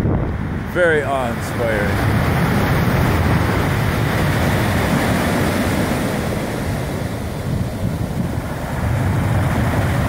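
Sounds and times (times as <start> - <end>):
wind on microphone: 0.0 - 10.0.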